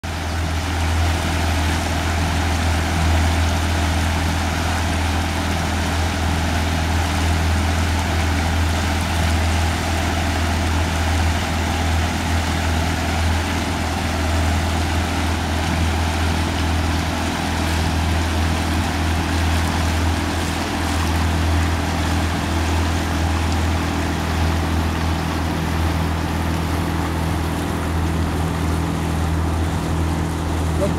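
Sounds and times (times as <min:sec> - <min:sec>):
outboard motor humming: 0:00.0 - 0:30.9.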